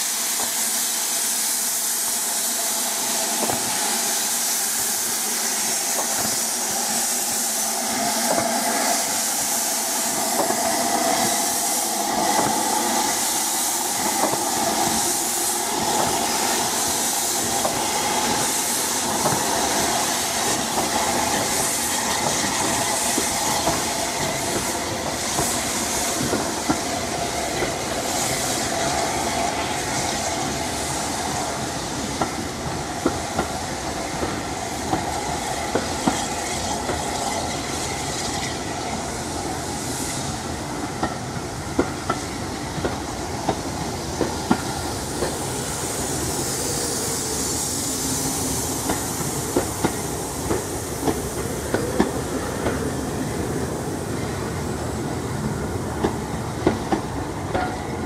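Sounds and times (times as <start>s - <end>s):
steam locomotive hissing: 0.0s - 58.0s.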